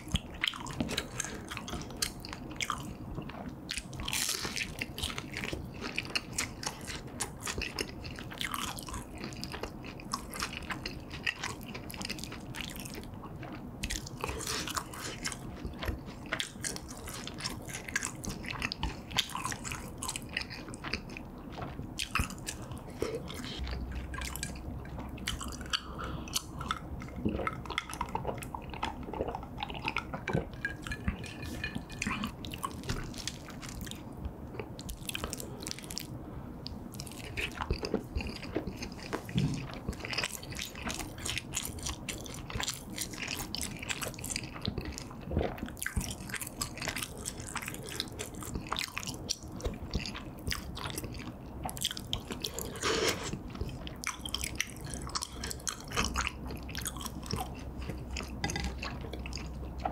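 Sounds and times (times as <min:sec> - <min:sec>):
chewing with wet mouth sounds: 0:00.0 - 0:59.9.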